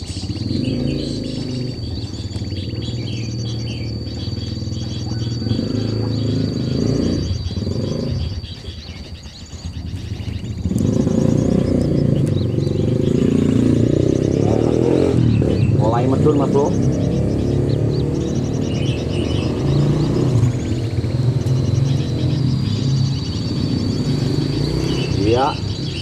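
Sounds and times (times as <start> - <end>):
low drone: 0.0 - 8.7, 9.7 - 26.0
birds chirping and twittering: 0.0 - 26.0.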